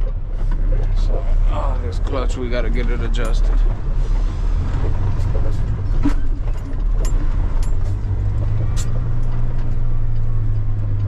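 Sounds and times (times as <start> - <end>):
sharp clicks and rattles: 0.0 - 11.0
truck diesel engine running: 0.0 - 11.0.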